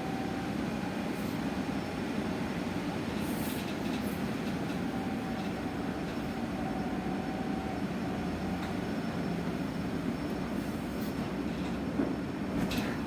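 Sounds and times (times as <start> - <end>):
road and tyre rumble: 0.4 - 13.0.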